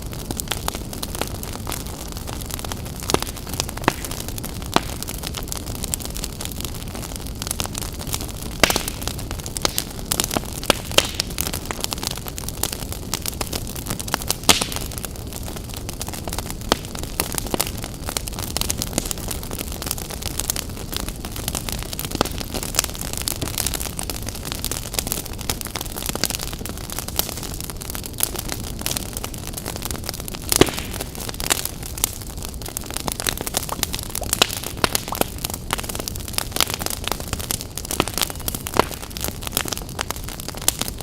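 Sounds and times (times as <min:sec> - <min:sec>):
campfire hissing and crackling: 0:00.0 - 0:41.0.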